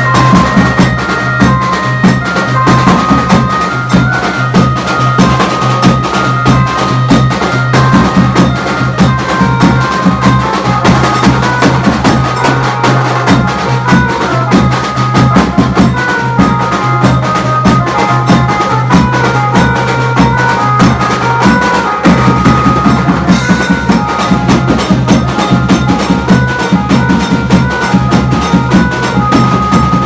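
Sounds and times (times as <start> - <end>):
fast dense drum beat: 0.0 - 30.0
held melody line: 0.0 - 30.0.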